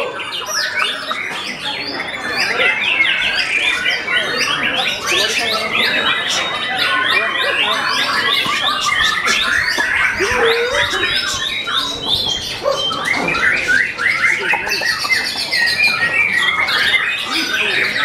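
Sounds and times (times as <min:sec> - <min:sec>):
birds singing in chorus: 0:00.0 - 0:18.0.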